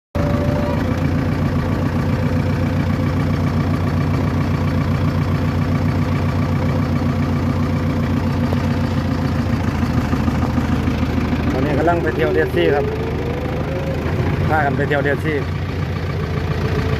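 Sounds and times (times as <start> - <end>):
vehicle engine idling: 0.2 - 16.9.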